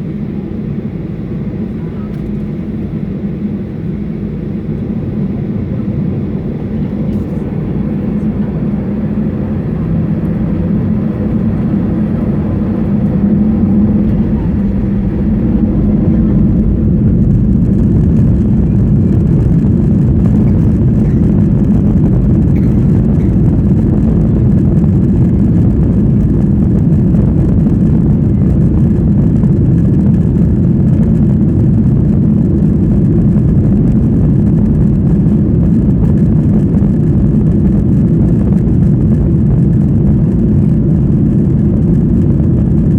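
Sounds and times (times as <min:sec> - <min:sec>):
jet engines rumbling in cabin: 0:00.0 - 0:42.9.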